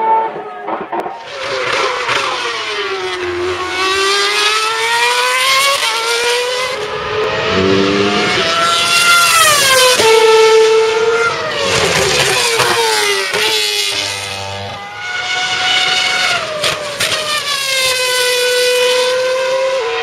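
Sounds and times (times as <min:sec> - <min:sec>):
racing car engines screaming: 0:00.0 - 0:20.0.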